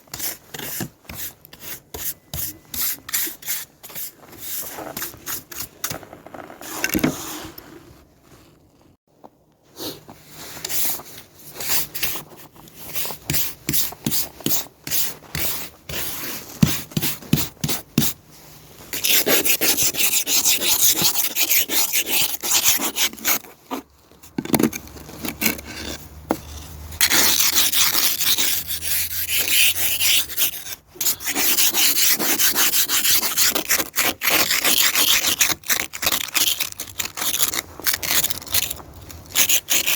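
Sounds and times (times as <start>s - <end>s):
scraping snow and ice off car: 3.2s - 9.0s, 9.8s - 24.0s, 24.7s - 39.9s.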